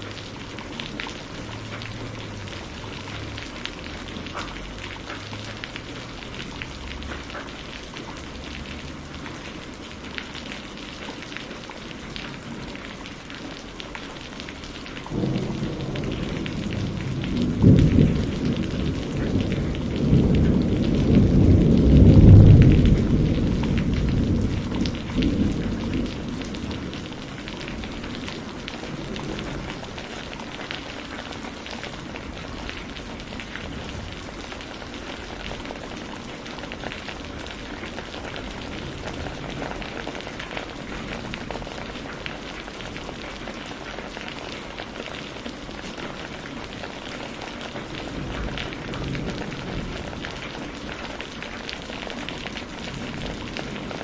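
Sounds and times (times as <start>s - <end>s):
low rumble of thunder: 0.0s - 13.1s, 14.4s - 54.0s
rain falling: 0.0s - 54.0s.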